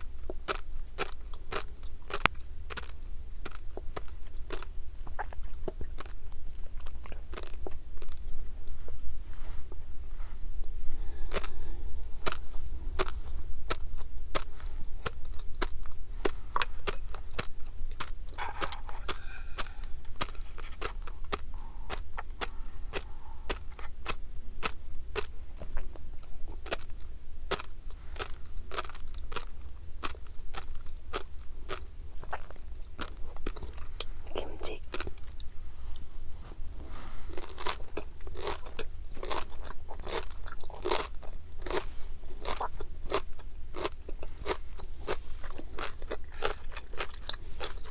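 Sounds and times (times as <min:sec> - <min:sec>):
chewing with crisp pops: 0:00.0 - 0:09.4, 0:10.2 - 0:35.6, 0:36.8 - 0:47.9.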